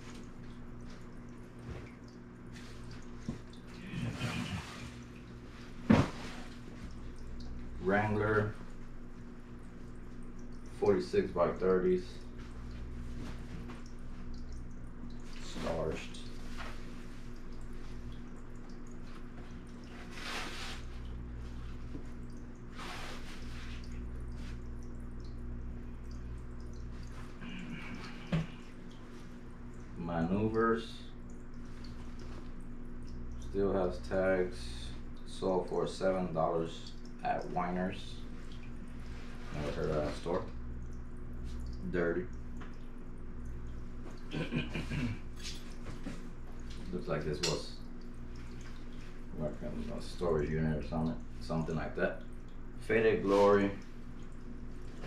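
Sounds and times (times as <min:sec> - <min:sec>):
aquarium filter trickling: 0:00.0 - 0:55.0
steady hum: 0:00.0 - 0:55.0.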